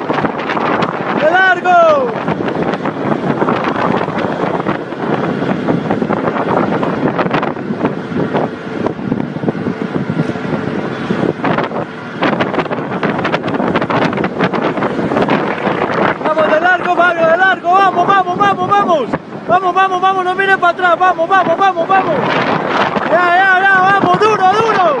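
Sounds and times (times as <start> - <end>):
car road noise: 0.0 - 25.0
wind buffeting microphone: 0.0 - 25.0.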